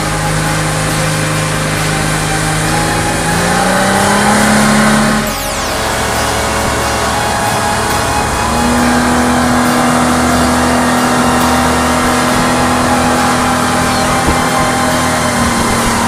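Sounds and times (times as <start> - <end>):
outboard motor running: 0.0 - 16.0
rushing water and wind: 0.0 - 16.0.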